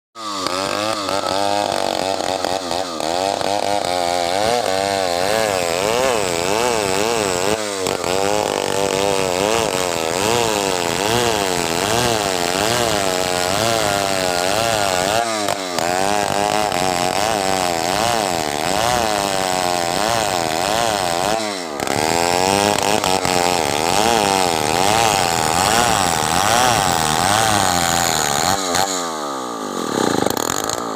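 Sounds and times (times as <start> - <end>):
chainsaw cutting wood: 0.2 - 30.9.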